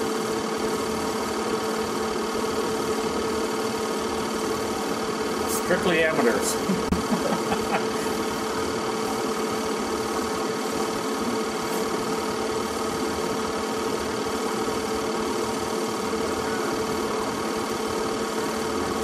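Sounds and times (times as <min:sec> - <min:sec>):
film projector whirring: 0:00.0 - 0:19.0.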